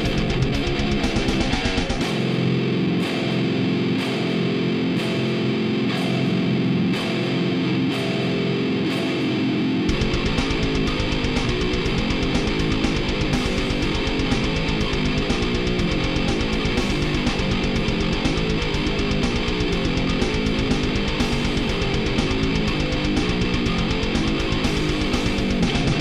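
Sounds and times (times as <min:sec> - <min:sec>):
distorted electric guitar: 0:00.0 - 0:26.0
drums: 0:00.0 - 0:26.0.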